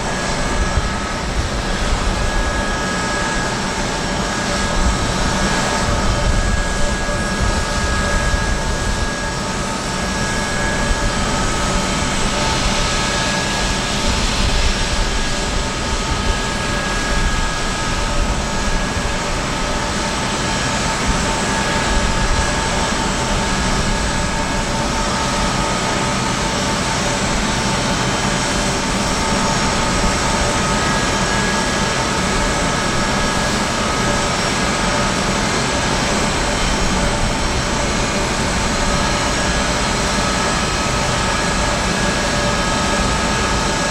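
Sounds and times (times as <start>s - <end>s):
jet engines hissing and whining: 0.0s - 43.9s.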